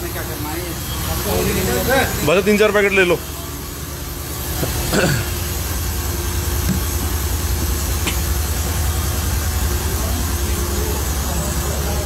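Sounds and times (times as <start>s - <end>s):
machine drone: 0.0s - 12.0s.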